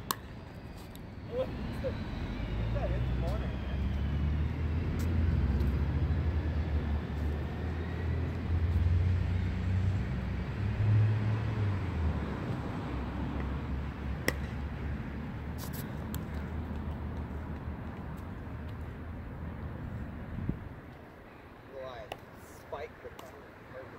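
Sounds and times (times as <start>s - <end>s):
low traffic rumble: 0.0s - 23.9s.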